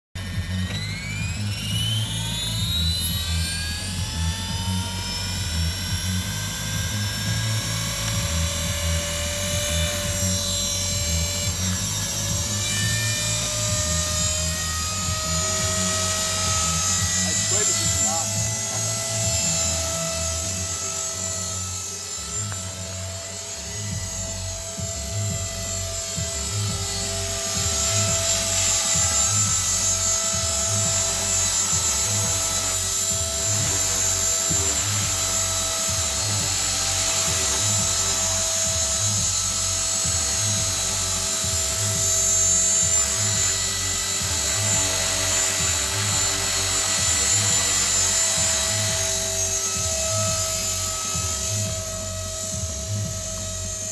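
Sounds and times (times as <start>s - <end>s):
motor and gears whining: 0.2s - 53.9s
rotor blades whirring: 0.2s - 53.9s.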